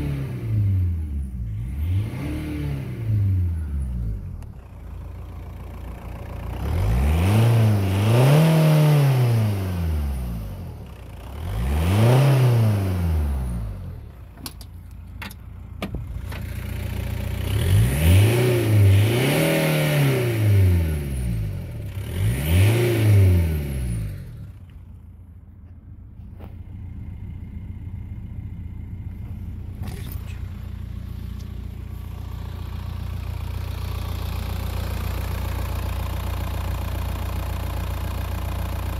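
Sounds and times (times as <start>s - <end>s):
diesel engine revving and idling: 0.0s - 38.9s.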